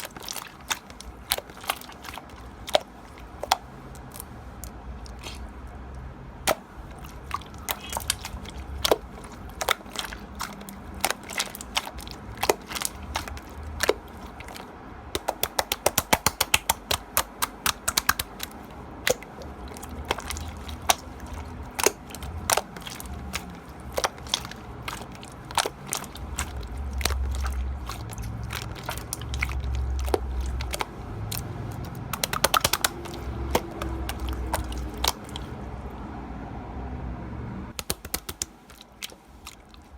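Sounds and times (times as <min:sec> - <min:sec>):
slime squished by hand clicking: 0:00.0 - 0:05.5, 0:06.4 - 0:35.5, 0:37.7 - 0:39.9.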